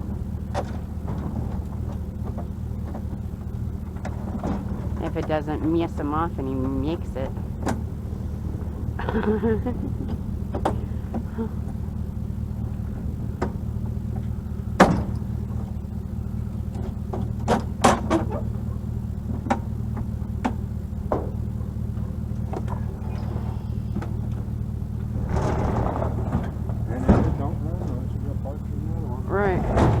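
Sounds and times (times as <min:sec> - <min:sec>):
sharp knocks and clunks: 0:00.0 - 0:15.9, 0:16.5 - 0:30.0
vehicle engine idling: 0:00.0 - 0:30.0.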